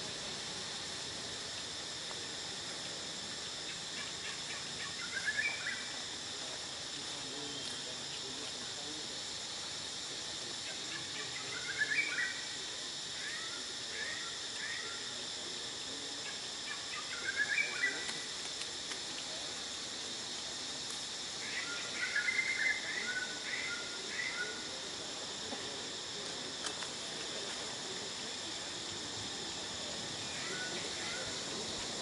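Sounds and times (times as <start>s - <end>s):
high-pitched insect drone: 0.0s - 32.0s.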